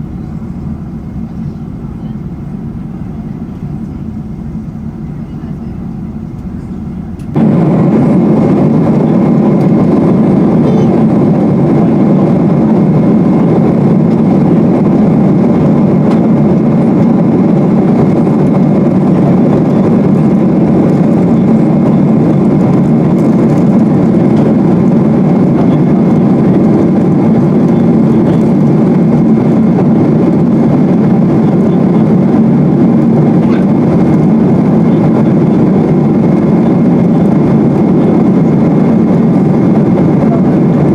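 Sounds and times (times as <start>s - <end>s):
jet engine and airflow in cabin: 0.0s - 40.9s.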